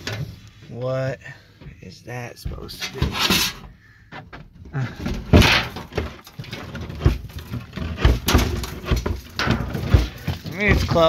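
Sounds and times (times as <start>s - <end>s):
building material knocking and scraping: 1.6s - 11.0s.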